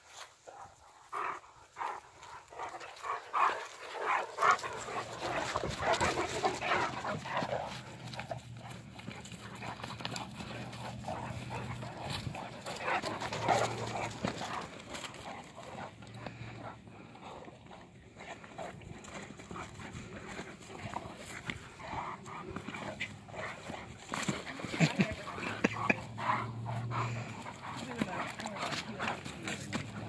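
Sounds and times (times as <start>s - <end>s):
dogs play-fighting vocalizing: 0.5s - 30.0s.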